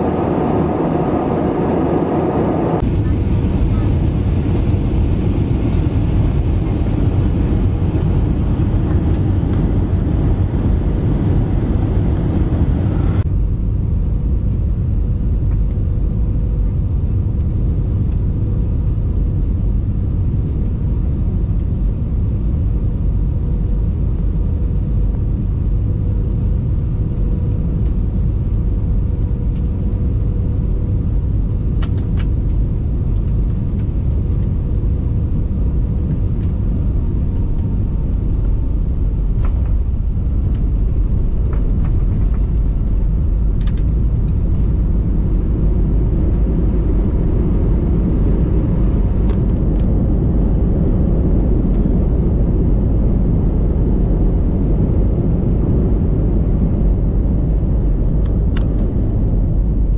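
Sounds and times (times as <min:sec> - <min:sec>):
airplane cabin engine rumble: 0:00.0 - 0:59.9
faint steady hum: 0:00.0 - 0:59.9.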